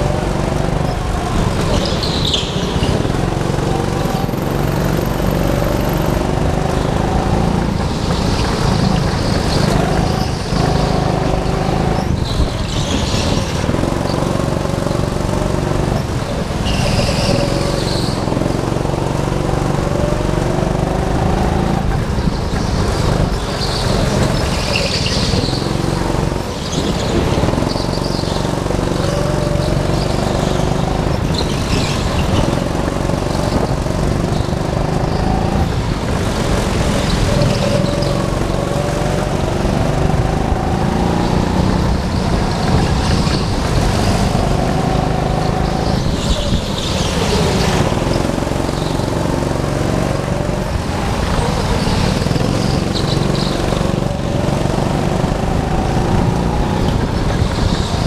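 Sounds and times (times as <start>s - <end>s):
go-kart engines racing: 0.0s - 58.0s.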